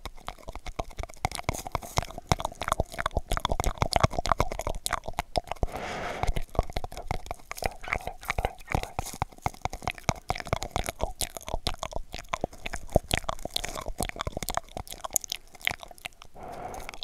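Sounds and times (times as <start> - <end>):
wet mouth clicks and pops: 0.0 - 17.0.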